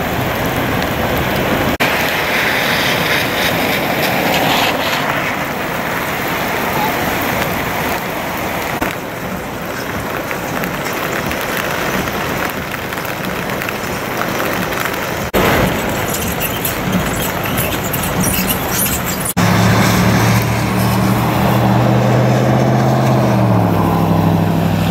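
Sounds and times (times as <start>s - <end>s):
cars splashing through water: 0.0s - 24.9s
heavy rain: 0.0s - 24.9s.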